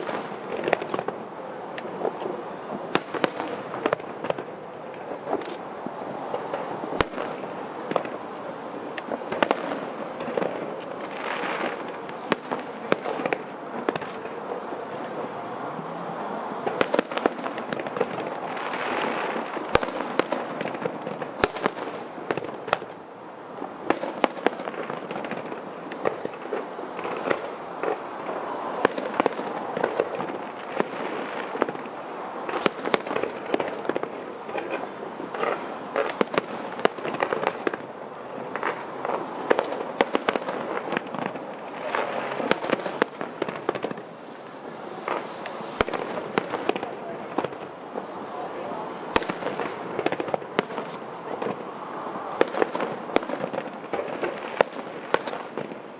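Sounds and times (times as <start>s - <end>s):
continuous wash of noise: 0.0s - 55.9s
fireworks bursting with bangs: 0.0s - 55.9s.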